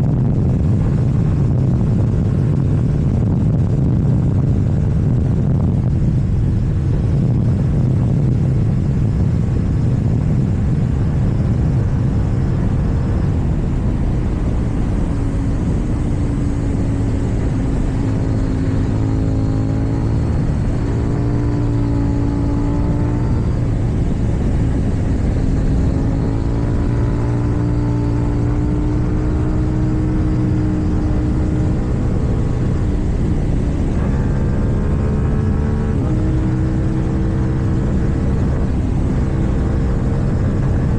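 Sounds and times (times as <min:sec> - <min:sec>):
motorcycle engine running on road: 0:00.0 - 0:40.9.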